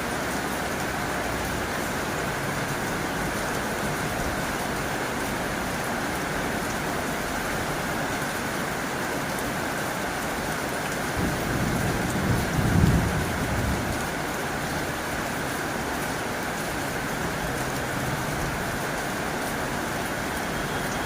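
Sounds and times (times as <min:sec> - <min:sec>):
heavy rain on a tin roof: 0:00.0 - 0:21.0.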